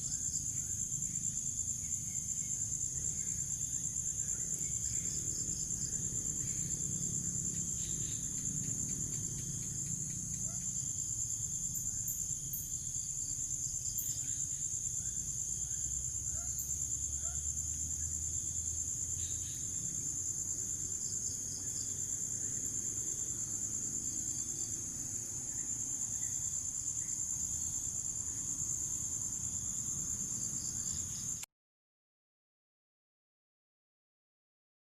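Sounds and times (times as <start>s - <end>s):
crickets trilling: 0.0s - 31.4s.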